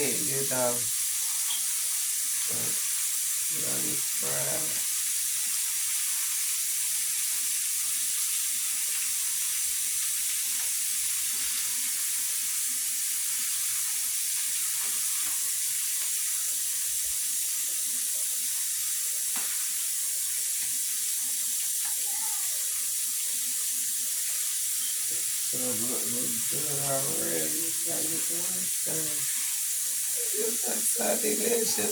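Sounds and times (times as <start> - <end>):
rice sizzling in a pan: 0.0 - 31.9.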